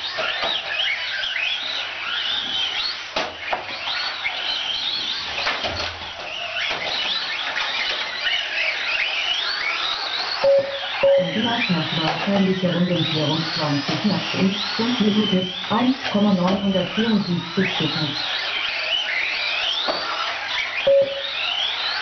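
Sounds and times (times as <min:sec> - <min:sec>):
rc car motors whining: 0:00.0 - 0:22.0.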